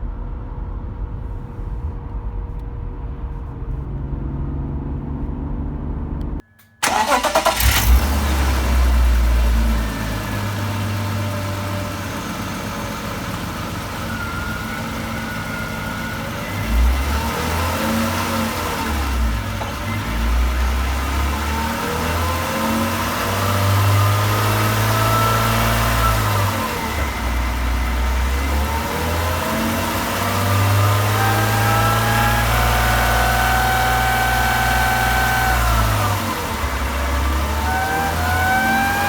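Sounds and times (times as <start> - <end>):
car engine rumble: 0.0 - 39.0.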